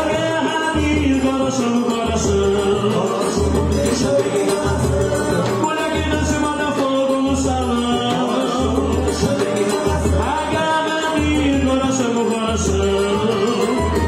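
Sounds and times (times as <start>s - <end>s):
accordion melody: 0.0s - 14.0s
bass drum beat: 0.0s - 14.0s.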